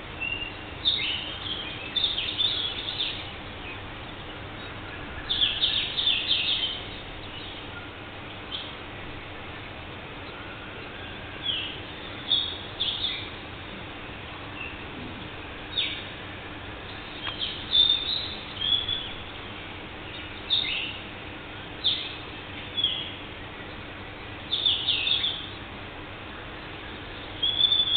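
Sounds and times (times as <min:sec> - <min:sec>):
background hiss: 0:00.0 - 0:27.9
birds chirping: 0:00.0 - 0:27.9.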